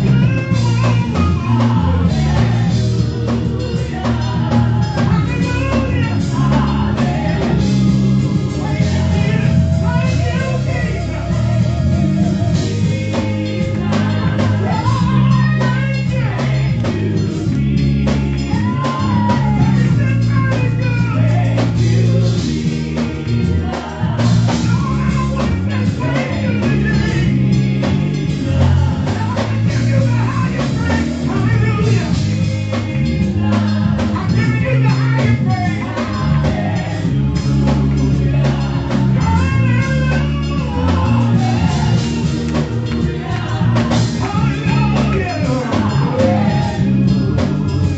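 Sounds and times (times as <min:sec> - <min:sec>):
gospel music with singer: 0:00.0 - 0:47.9.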